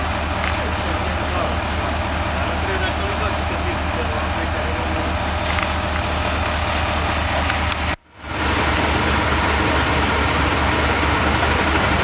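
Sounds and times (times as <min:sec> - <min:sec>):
fire truck engine idling: 0:00.0 - 0:12.0.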